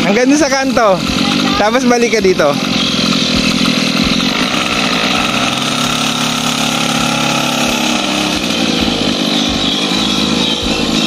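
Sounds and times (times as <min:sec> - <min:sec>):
mini dirt bike engine running: 0:00.0 - 0:11.0.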